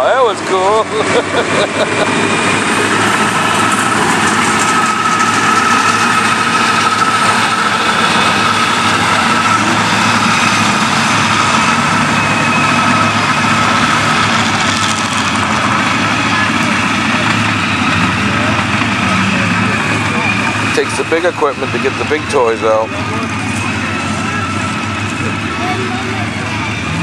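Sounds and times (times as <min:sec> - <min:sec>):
high whine: 0:00.0 - 0:27.0
truck engine running: 0:00.0 - 0:27.0.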